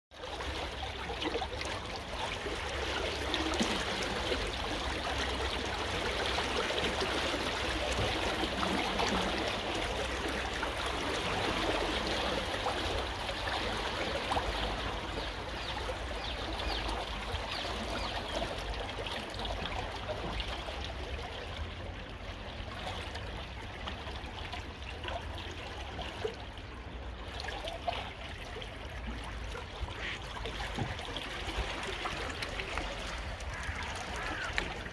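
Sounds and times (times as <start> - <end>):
river water flowing fast: 0.2 - 34.9.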